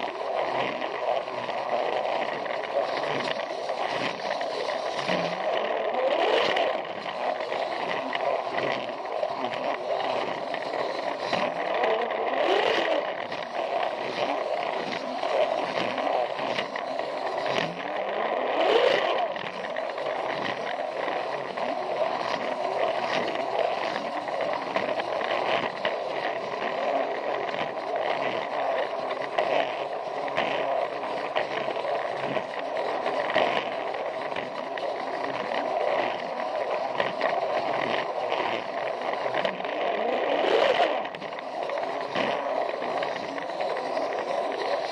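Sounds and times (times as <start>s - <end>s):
toy train motor whirring: 0.0s - 44.9s
wheels clicking on track: 0.0s - 44.9s.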